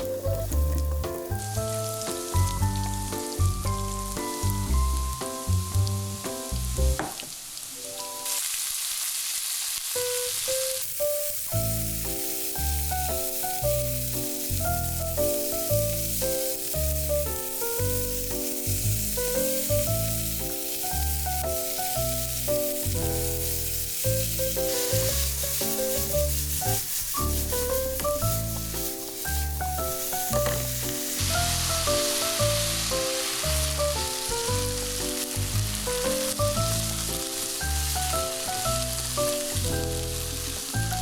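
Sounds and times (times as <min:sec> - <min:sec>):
kimchi sizzling in a pan: 0:00.0 - 0:41.0.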